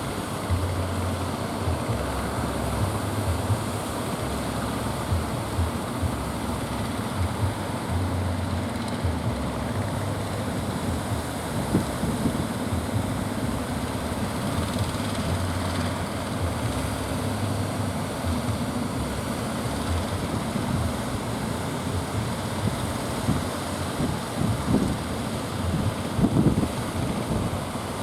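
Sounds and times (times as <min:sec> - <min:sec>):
boat engine humming: 0:00.0 - 0:28.0
surf: 0:00.0 - 0:28.0
wind: 0:00.0 - 0:28.0.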